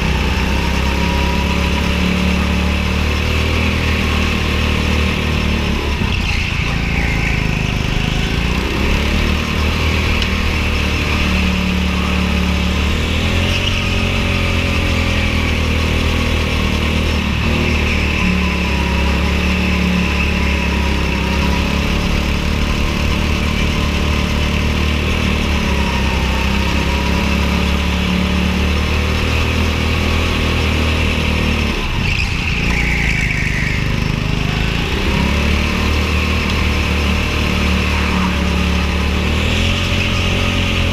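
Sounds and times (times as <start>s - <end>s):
go-kart engine running hard: 0.0s - 40.9s.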